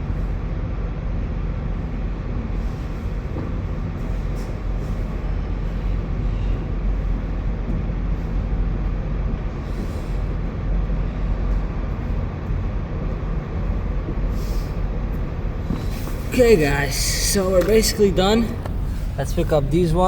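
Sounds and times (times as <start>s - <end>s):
large engine idling: 0.0s - 20.0s.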